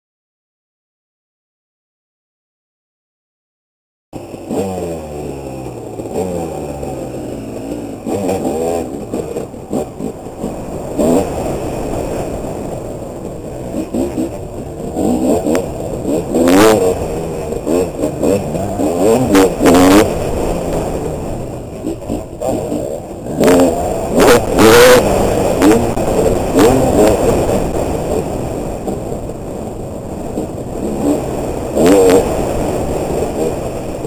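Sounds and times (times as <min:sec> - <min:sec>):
dirt bike engine revving: 0:04.2 - 0:34.0.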